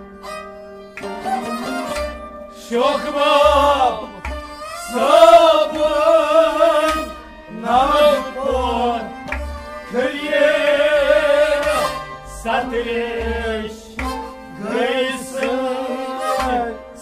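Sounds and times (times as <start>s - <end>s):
harmonium chords: 0.0s - 17.0s
man singing: 2.5s - 17.0s.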